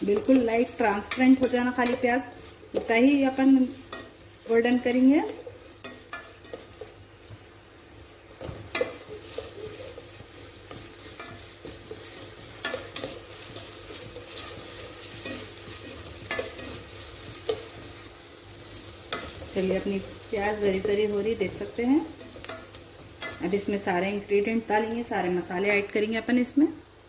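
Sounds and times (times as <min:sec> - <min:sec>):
spatula stirring and scraping: 0:00.0 - 0:24.0
onions sizzling in hot oil: 0:00.0 - 0:27.0.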